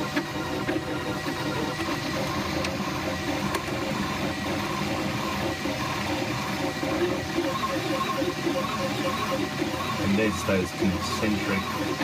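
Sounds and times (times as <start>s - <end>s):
printer motors whirring: 0.0s - 12.0s.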